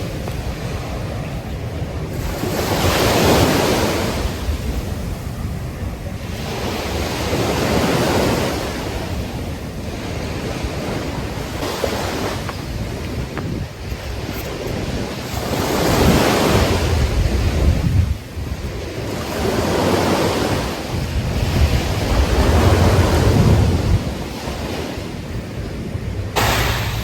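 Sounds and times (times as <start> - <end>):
ocean waves breaking: 0.0 - 27.0
wind on microphone: 0.0 - 27.0.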